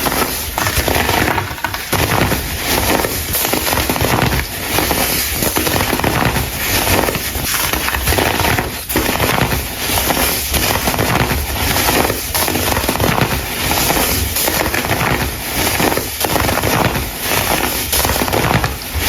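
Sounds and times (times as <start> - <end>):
dry crumble crushed crunching: 0.0 - 19.0.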